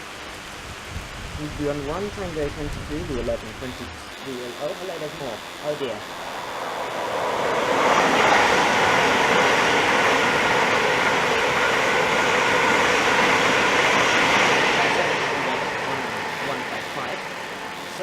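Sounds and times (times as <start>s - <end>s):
electric train passing at speed: 0.0s - 18.0s.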